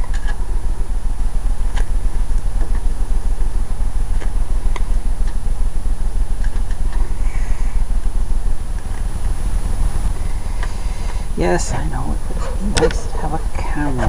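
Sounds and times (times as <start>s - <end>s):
low rumble: 0.5s - 14.0s.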